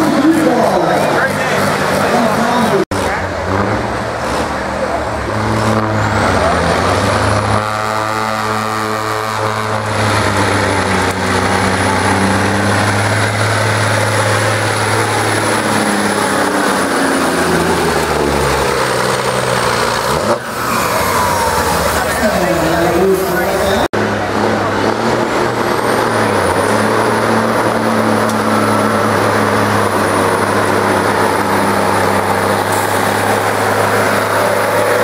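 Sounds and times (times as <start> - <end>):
diesel truck engine revving: 0.0 - 35.0.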